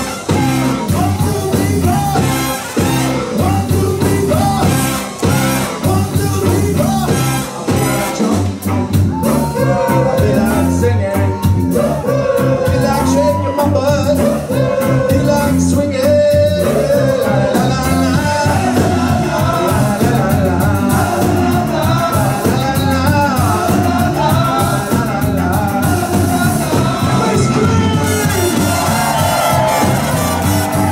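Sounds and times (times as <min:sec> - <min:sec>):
band members singing together: 0:00.0 - 0:08.5, 0:09.4 - 0:30.9
horn section melody: 0:00.0 - 0:30.9
ska band playing live: 0:00.0 - 0:30.9.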